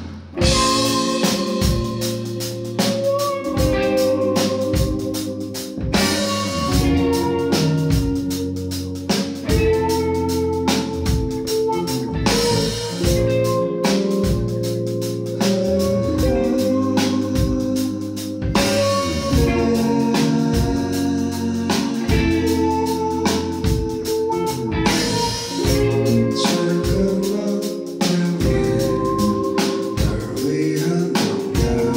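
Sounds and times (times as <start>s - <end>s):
drum kit hits: 0.0s - 31.9s
electric bass line: 0.0s - 31.9s
organ-like chords: 0.0s - 31.9s.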